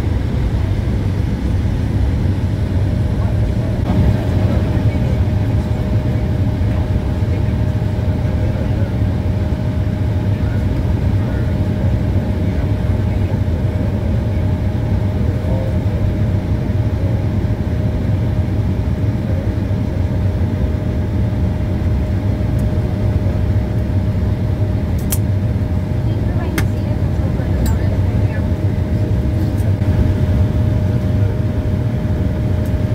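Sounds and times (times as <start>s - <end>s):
jet engines idling rumble: 0.0s - 32.9s.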